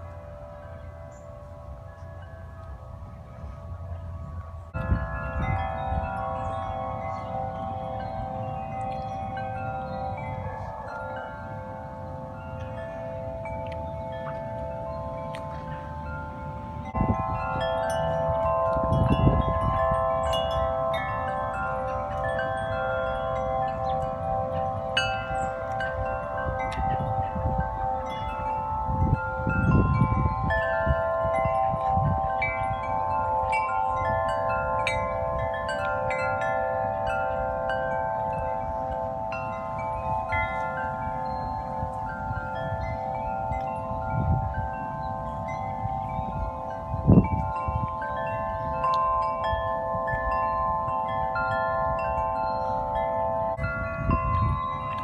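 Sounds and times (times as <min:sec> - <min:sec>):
wind chimes ringing: 0:00.0 - 0:55.0
wind rumbling on microphone: 0:00.0 - 0:55.0.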